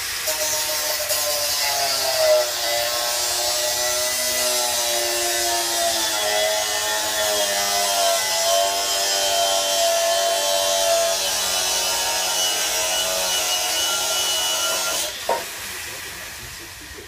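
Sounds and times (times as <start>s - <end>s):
angle grinder cutting steel: 0.0s - 16.8s.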